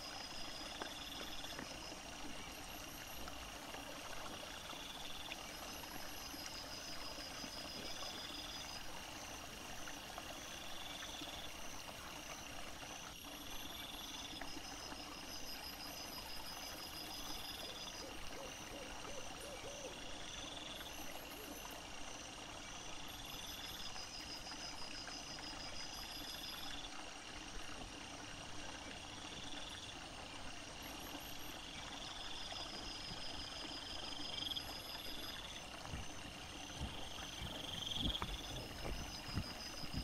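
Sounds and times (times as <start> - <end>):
constant hiss: 0.0 - 40.0
insects trilling: 0.0 - 40.0.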